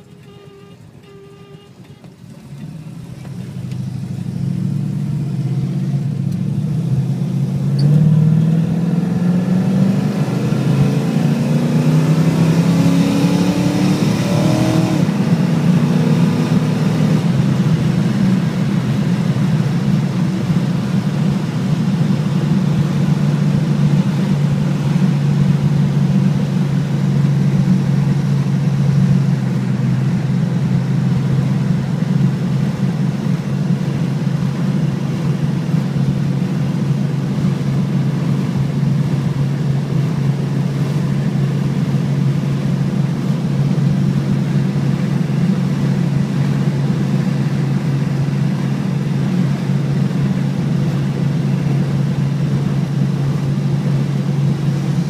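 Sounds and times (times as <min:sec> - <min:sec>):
car engine accelerating from inside: 0:00.0 - 0:55.0.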